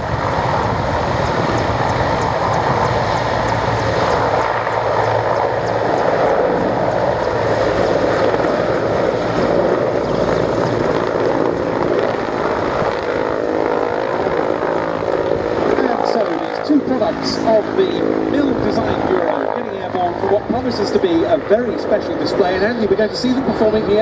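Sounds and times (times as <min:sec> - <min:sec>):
aircraft engines droning: 0:00.0 - 0:24.0.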